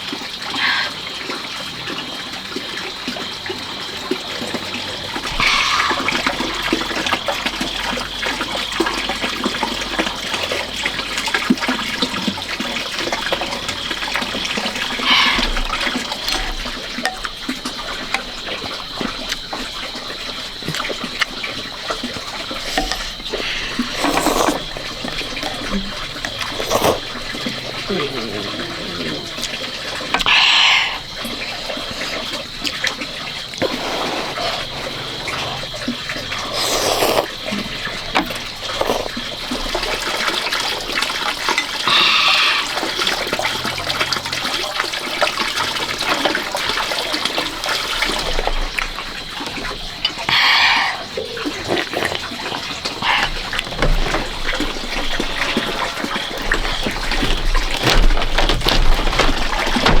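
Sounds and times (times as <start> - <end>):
water running and splashing: 0.0 - 60.0.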